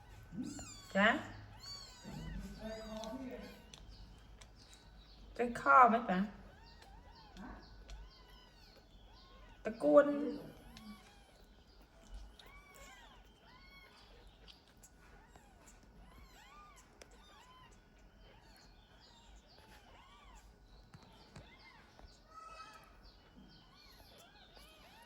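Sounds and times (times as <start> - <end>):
kittens mewing: 0.0 - 5.3, 6.2 - 25.0.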